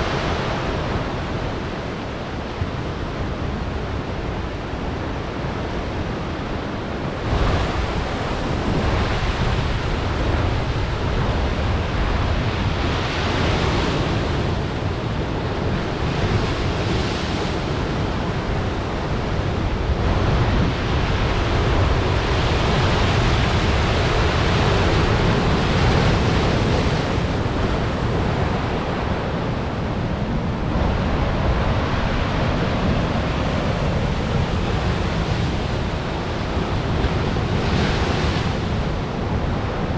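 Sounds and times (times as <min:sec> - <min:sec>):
ocean waves crashing on rocks: 0:00.0 - 0:39.9.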